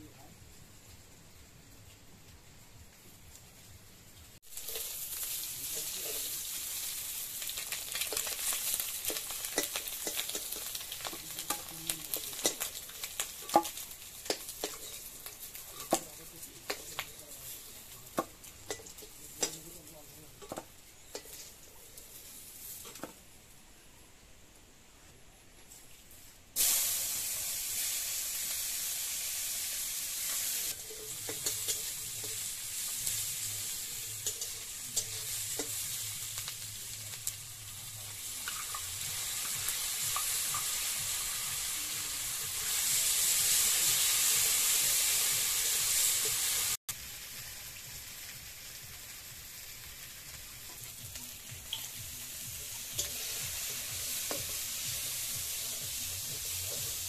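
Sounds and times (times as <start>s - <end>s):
food sizzling in oil: 0.0s - 23.2s, 26.6s - 57.0s.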